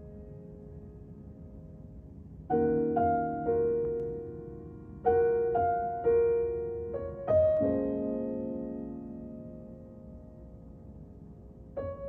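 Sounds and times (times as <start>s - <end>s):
soft piano notes: 0.0s - 12.0s.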